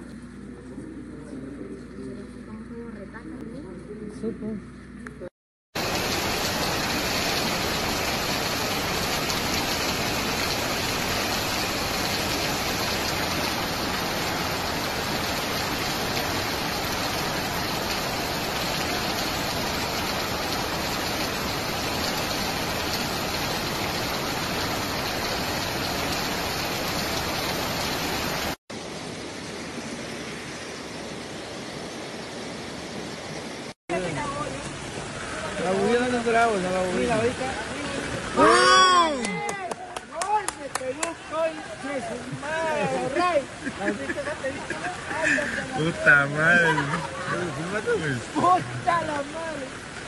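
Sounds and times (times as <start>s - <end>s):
torrential rain: 5.8s - 50.0s.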